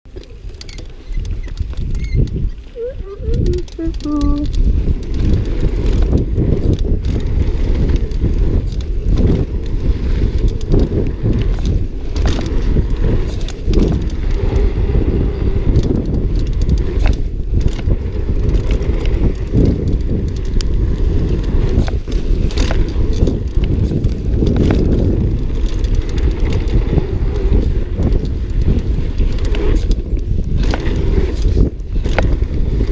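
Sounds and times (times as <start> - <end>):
bike rattling over bumps: 0.1 - 32.9
bike tyres rumbling over ground: 0.1 - 32.9.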